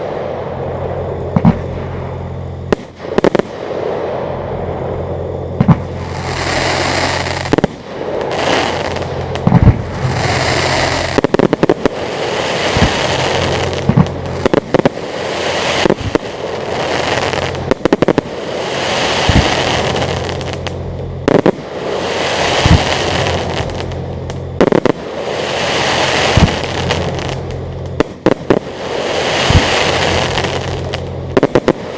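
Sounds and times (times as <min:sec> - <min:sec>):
fireworks crackling: 0:00.0 - 0:31.9.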